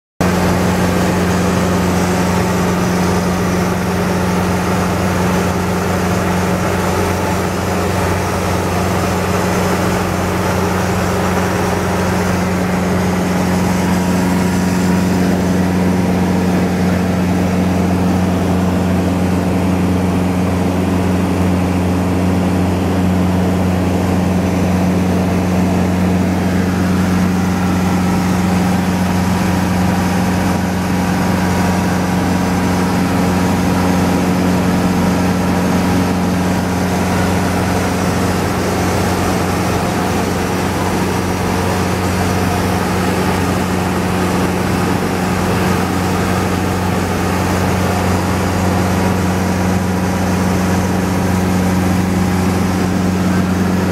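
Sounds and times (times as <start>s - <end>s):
airplane engine droning: 0.2s - 53.9s.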